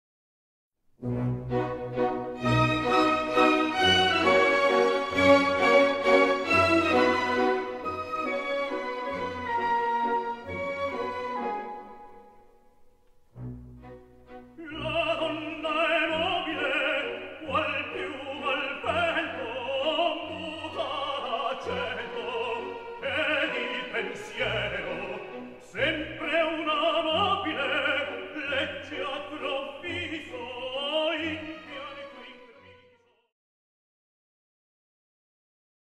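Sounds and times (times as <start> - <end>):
operatic orchestral music: 1.0 - 33.2.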